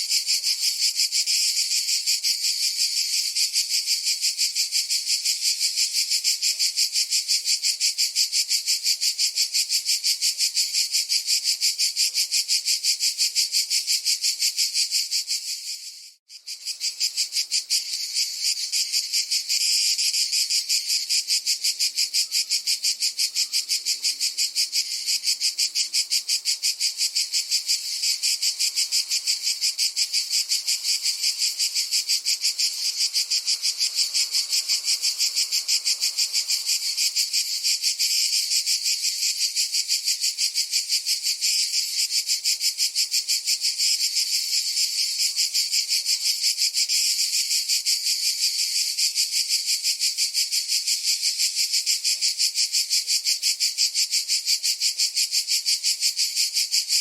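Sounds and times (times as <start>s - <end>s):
cicada chorus buzzing: 0.0s - 57.0s.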